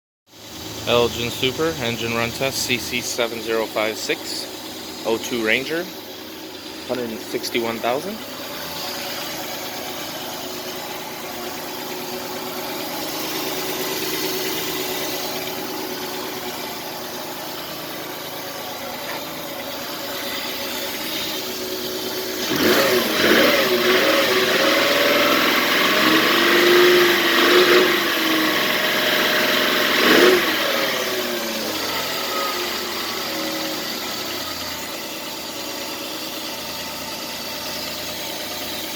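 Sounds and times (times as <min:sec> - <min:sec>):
truck engine idling and revving: 0:00.4 - 0:38.9.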